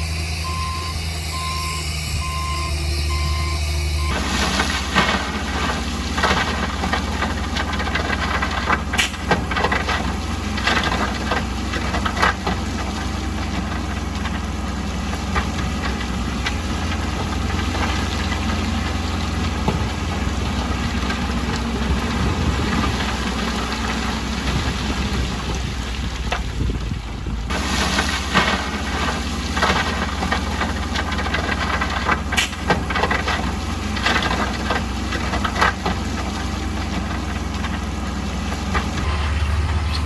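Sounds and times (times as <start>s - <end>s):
diesel construction machinery running: 0.0s - 40.0s
knocks and clanks: 4.1s - 24.6s, 27.8s - 40.0s.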